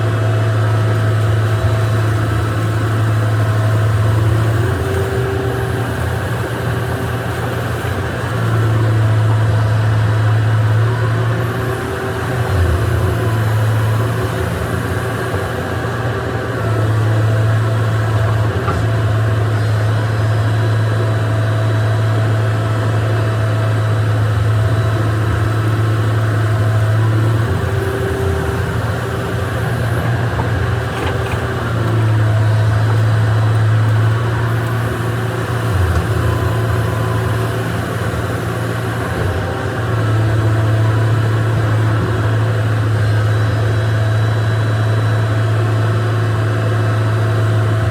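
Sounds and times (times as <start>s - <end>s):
diesel engine humming: 0.0s - 47.9s.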